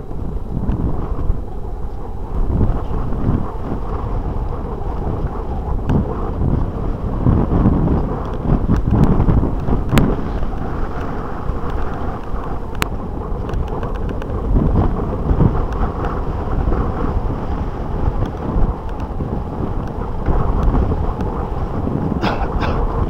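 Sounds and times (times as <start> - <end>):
bike rattling over dirt track: 0.0 - 23.0
wind buffeting microphone: 0.0 - 23.0.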